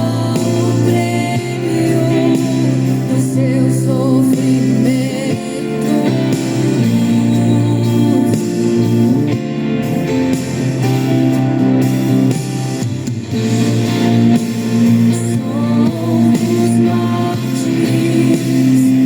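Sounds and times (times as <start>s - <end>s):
sustained instrumental backing: 0.0s - 19.0s.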